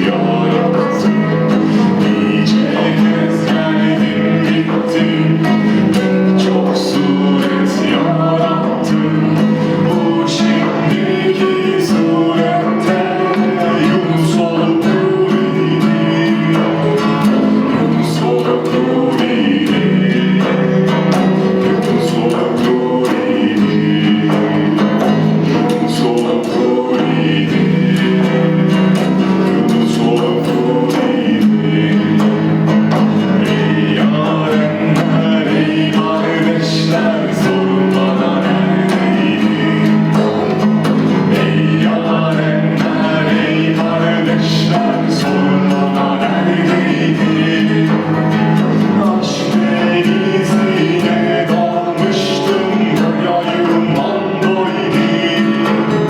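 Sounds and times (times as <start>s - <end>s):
voices chanting: 0.0s - 56.0s.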